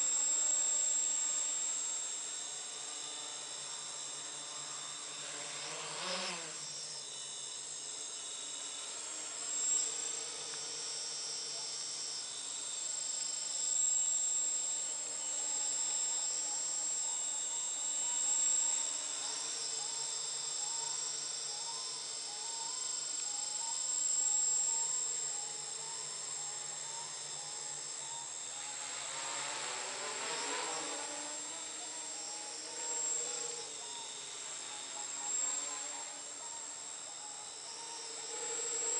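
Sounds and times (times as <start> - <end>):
quadcopter propellers buzzing: 0.0 - 38.9.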